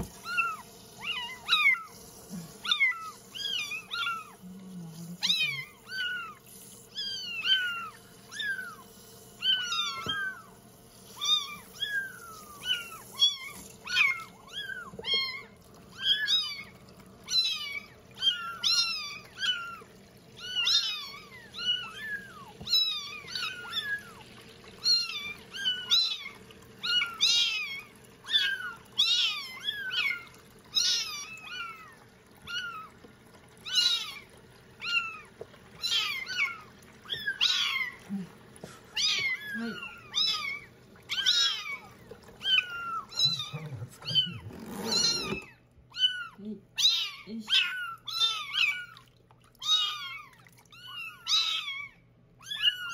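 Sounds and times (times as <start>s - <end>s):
kittens meowing: 5.0s - 10.5s, 11.1s - 33.0s, 33.6s - 49.0s, 49.6s - 52.9s.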